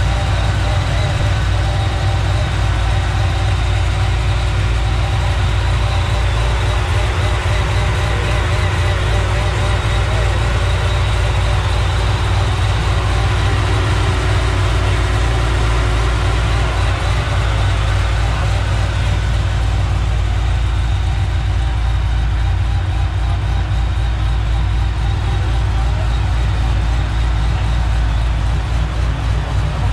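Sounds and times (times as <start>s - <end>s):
car engine idling with deep rumble: 0.0s - 29.9s.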